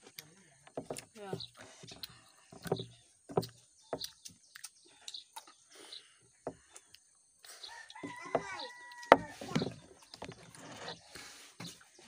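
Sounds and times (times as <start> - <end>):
child chewing noisily: 0.0 - 11.4.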